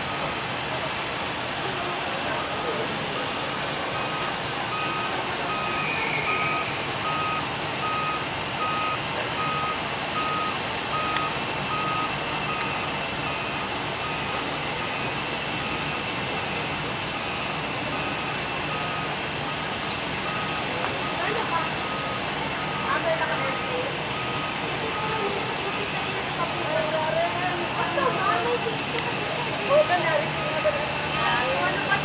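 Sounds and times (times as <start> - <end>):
reversing alarm beeping: 0.0 - 0.6, 2.3 - 32.0
vehicle engine hum: 0.0 - 32.0.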